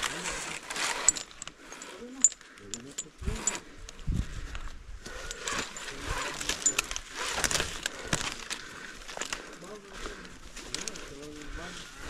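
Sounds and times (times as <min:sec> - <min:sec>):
climbing gear clinking: 0:00.0 - 0:12.0
palm fronds rustling: 0:00.0 - 0:12.0.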